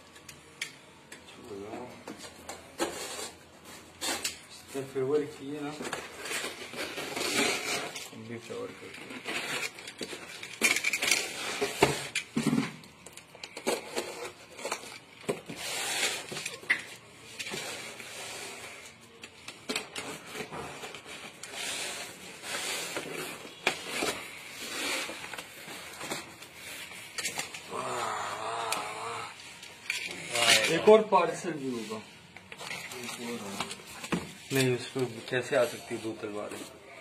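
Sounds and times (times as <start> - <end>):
cardboard and plastic rustling: 1.5 - 27.8, 29.4 - 36.9.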